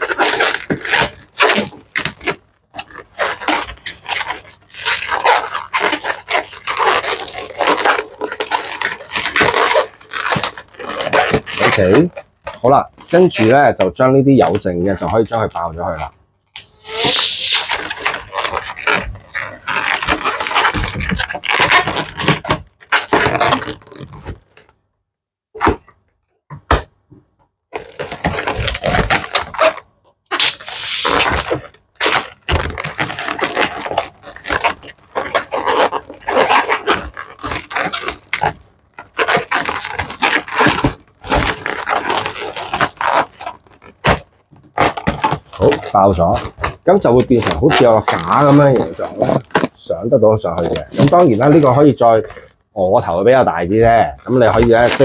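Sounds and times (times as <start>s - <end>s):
balloon popping: 0.0s - 13.8s, 14.4s - 24.7s, 27.7s - 55.0s
balloons squeaking and rubbing: 0.0s - 24.8s, 27.7s - 55.0s.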